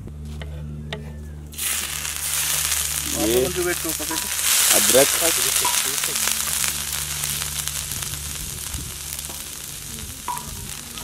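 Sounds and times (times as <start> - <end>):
ginger sizzling in hot oil: 1.6 - 11.0.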